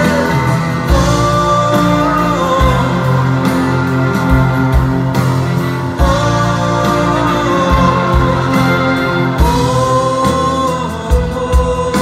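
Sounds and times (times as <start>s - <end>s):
man singing: 0.0s - 4.9s, 5.6s - 12.0s
live band music: 0.0s - 12.0s.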